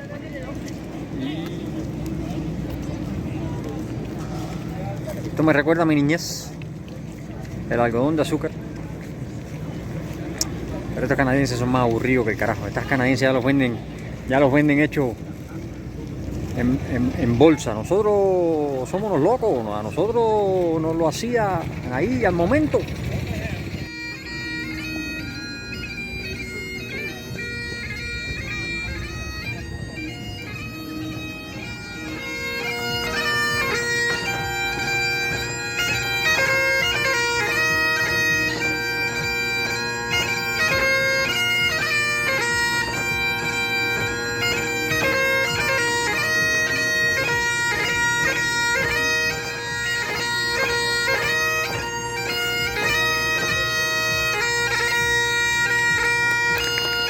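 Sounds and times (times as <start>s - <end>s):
bagpipes playing a tune: 0.0s - 57.0s.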